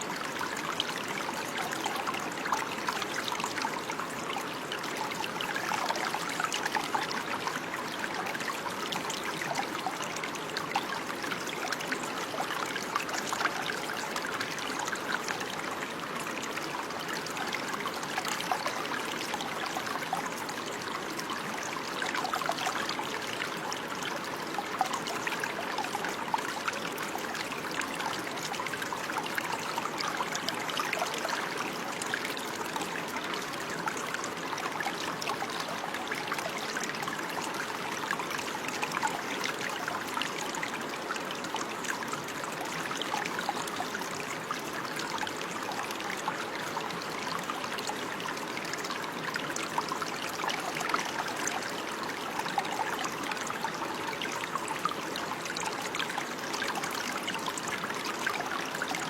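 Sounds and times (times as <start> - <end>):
babbling stream: 0.0 - 59.0.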